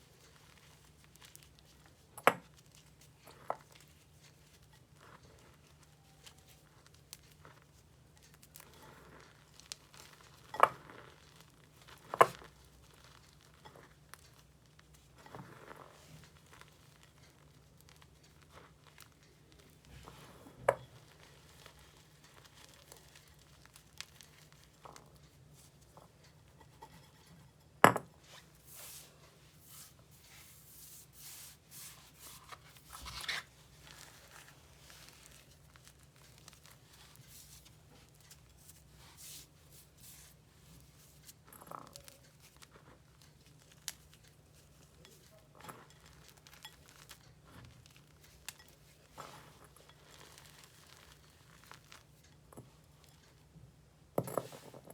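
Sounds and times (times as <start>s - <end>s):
chalk crunching and crumbling: 0.0s - 26.1s, 28.2s - 53.4s.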